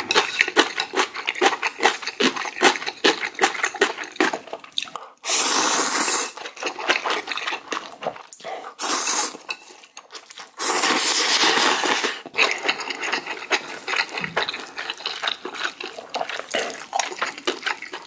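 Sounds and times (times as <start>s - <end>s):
wet chewing and smacking: 0.0s - 5.2s, 6.3s - 10.6s, 11.2s - 18.0s
person slurping noodles: 1.4s - 9.8s, 10.5s - 18.0s.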